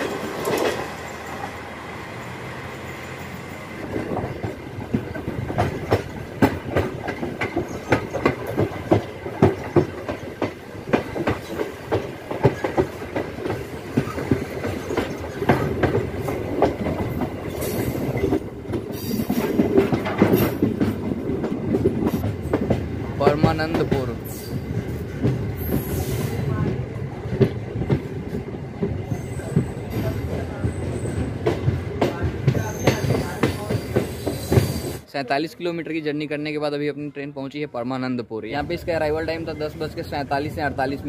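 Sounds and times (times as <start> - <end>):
train wheels clattering over track: 0.0 - 35.1
steady train rumble: 0.0 - 36.4, 38.5 - 41.0.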